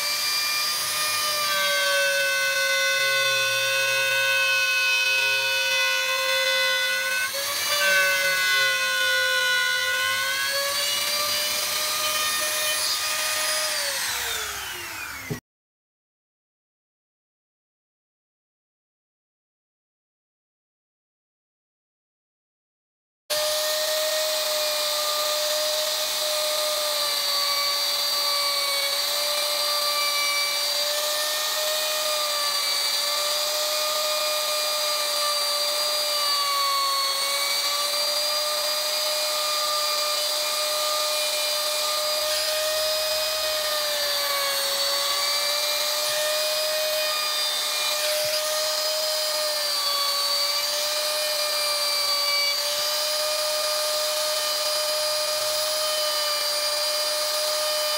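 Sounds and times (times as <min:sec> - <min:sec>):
wood router whining: 0:00.0 - 0:15.4, 0:23.3 - 0:57.9.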